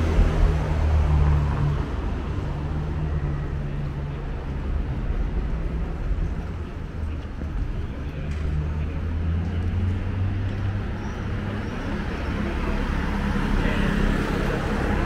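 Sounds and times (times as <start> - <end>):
passing vehicles: 0.0 - 15.0
traffic engine hum: 0.0 - 15.0.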